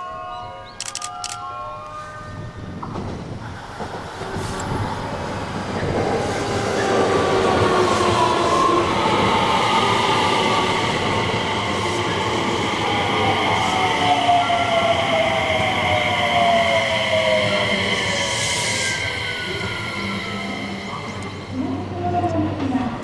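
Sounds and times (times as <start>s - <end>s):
electric train running past: 0.0s - 23.0s.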